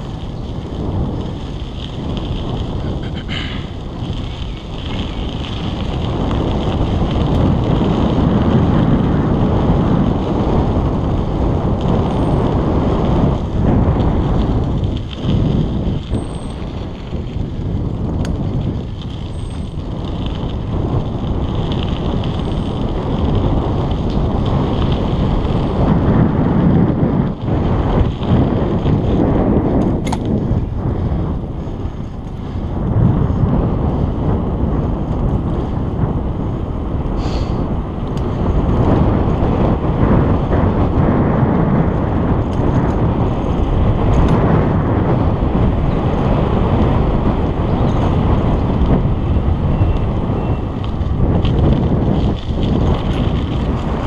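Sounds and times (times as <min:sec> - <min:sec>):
bicycle tyre road noise: 0:00.0 - 0:54.0
wind buffeting microphone: 0:00.0 - 0:54.0.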